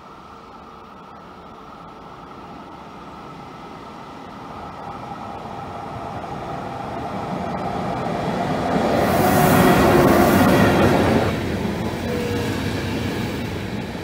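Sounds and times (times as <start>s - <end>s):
train approaching at speed: 0.0s - 14.0s.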